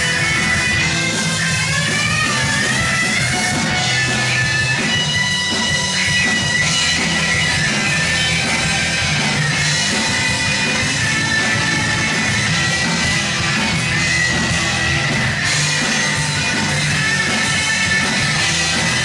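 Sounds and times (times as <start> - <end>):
high guitar line: 0.0 - 19.0
rock band playing live: 0.0 - 19.0.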